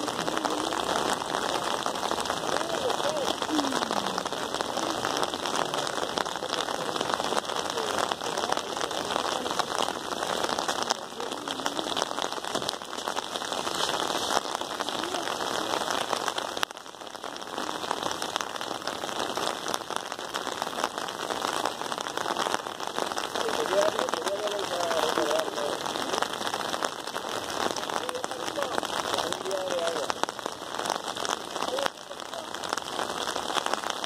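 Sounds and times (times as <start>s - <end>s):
rain on an umbrella: 0.0s - 34.0s
steady rain patter: 0.0s - 34.0s.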